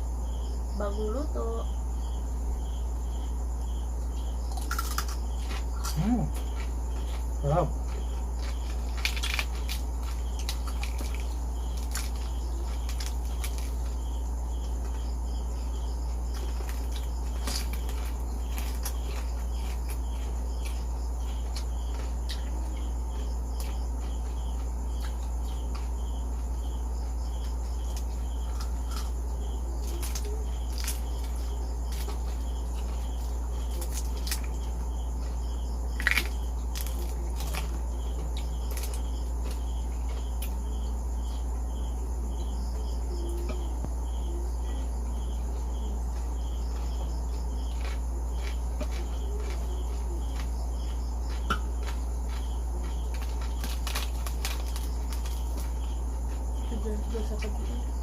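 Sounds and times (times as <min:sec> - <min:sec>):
crickets chirping: 0:00.0 - 0:58.0
low steady hum: 0:00.0 - 0:58.0
crunching bites of fried pork: 0:04.2 - 0:40.9, 0:46.2 - 0:56.6.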